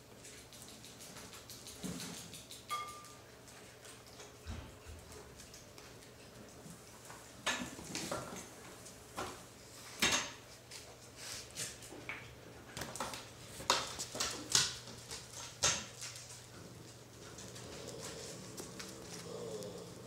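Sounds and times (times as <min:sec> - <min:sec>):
puppies scuffling on bedding: 0:00.1 - 0:20.0.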